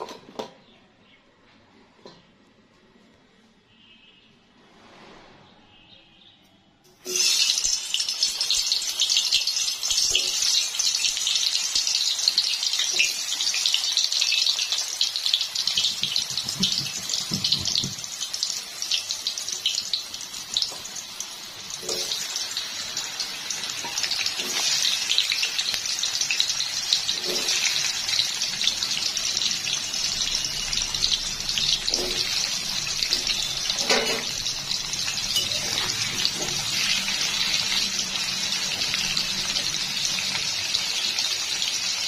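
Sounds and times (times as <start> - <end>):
food sizzling in hot oil: 7.0 - 42.0.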